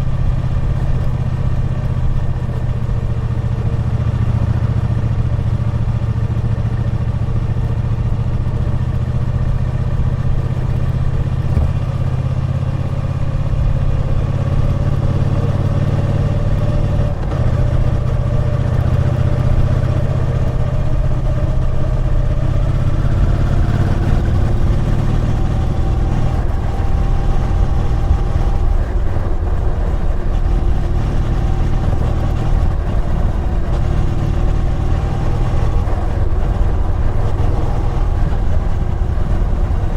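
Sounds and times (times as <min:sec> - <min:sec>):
motorcycle engine revving on road: 0:00.0 - 0:39.9.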